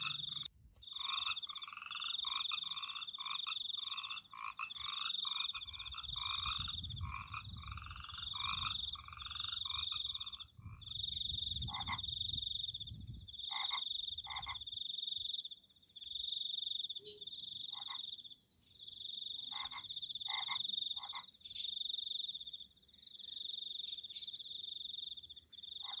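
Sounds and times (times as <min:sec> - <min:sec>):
frogs croaking: 0:00.0 - 0:26.0
frogs trilling: 0:00.0 - 0:26.0.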